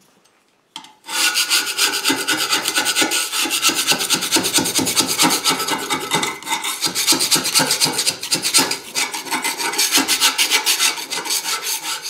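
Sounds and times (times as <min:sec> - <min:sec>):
metal scraper scraping rust: 0:01.0 - 0:12.0.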